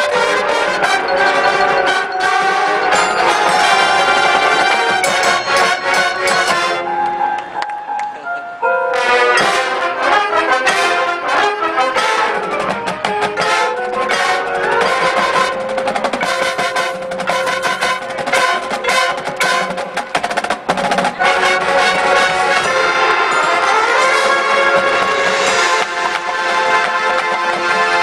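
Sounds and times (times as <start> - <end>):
drumline percussion: 0.0 - 7.3, 9.4 - 28.0
brass chords: 0.0 - 20.2, 21.1 - 28.0.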